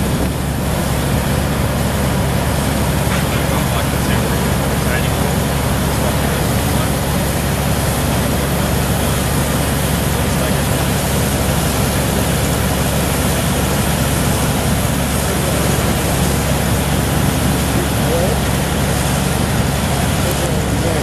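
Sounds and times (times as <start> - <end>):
construction site noise: 0.0 - 21.0
heavy machinery engine hum: 0.0 - 21.0.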